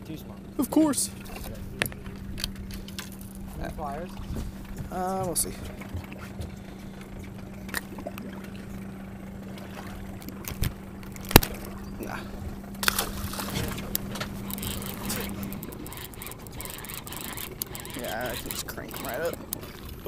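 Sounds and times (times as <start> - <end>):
steady hum: 0.0 - 20.0
water sloshing and trickling: 0.0 - 20.0.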